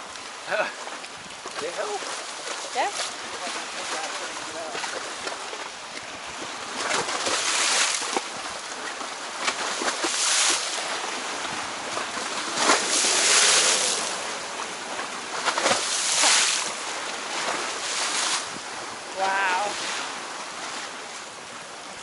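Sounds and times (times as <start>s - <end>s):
sea water washing on shore: 0.0s - 22.0s.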